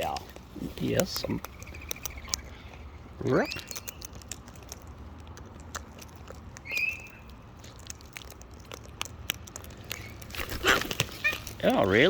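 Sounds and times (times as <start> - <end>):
beaks cracking seed: 0.0 - 12.0.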